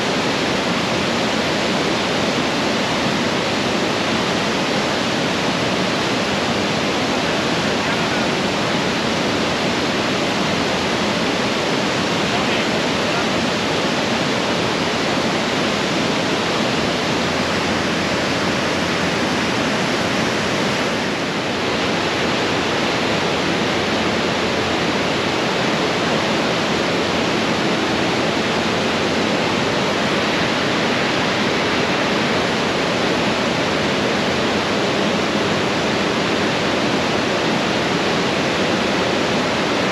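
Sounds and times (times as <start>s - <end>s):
rapids rushing over rocks: 0.0s - 39.9s.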